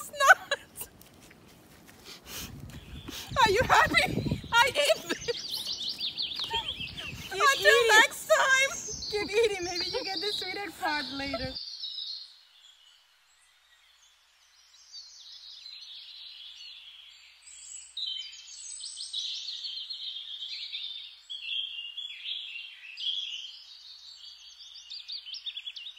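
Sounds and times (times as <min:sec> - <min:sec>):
birds chirping and trilling: 0:02.3 - 0:25.9.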